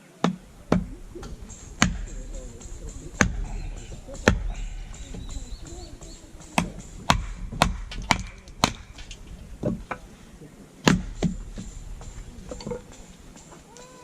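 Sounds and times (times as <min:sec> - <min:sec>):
firewood being chopped: 0:00.2 - 0:13.7.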